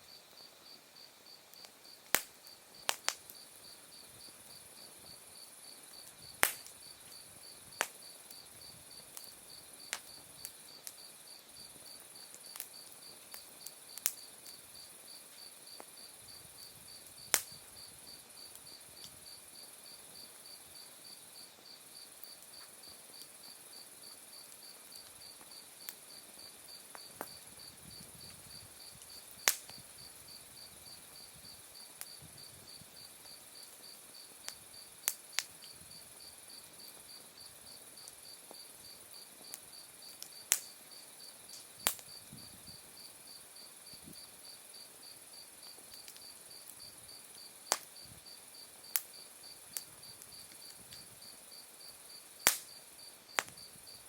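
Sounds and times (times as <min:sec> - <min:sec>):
campfire crackling and popping: 0:01.5 - 0:21.2, 0:21.8 - 0:54.0.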